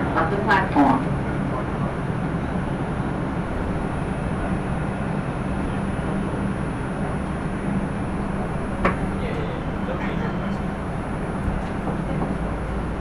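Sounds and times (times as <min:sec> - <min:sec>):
subway car hum and rumble: 0:00.0 - 0:13.0.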